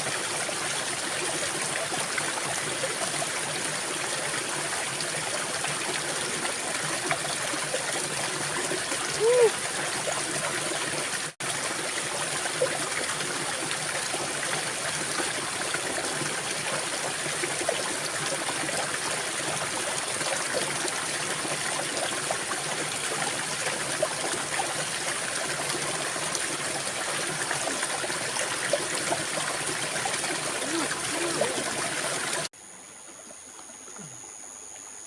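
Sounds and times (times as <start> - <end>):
small stream trickling: 0.0 - 35.0.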